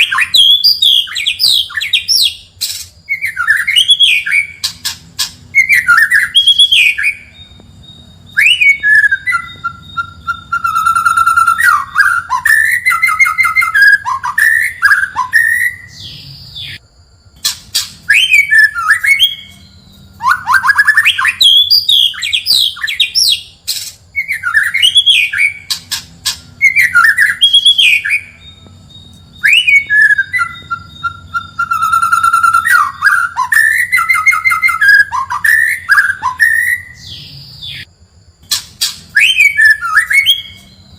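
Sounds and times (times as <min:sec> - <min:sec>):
bird singing whistled phrases: 0:00.0 - 0:16.8, 0:17.4 - 0:37.9, 0:38.8 - 0:40.9.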